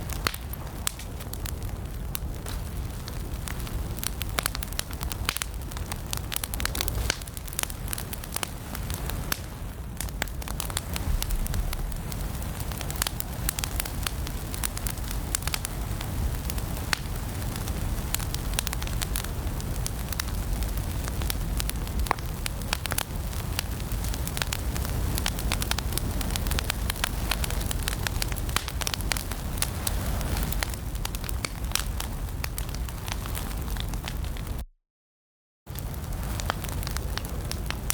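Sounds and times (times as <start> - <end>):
low rumble of flames: 0.0 - 34.6, 35.7 - 37.9
wood fire crackling: 0.0 - 34.6, 35.7 - 37.9.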